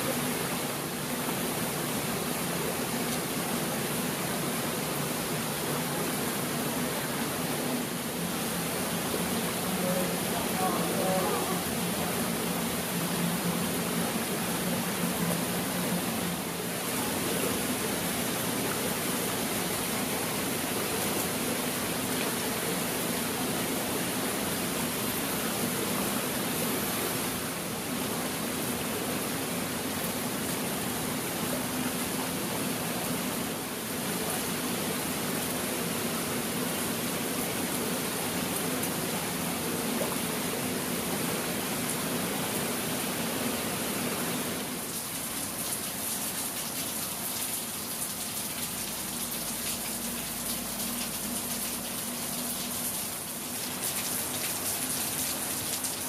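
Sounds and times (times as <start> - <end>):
rain falling on stone paving: 0.0 - 56.0.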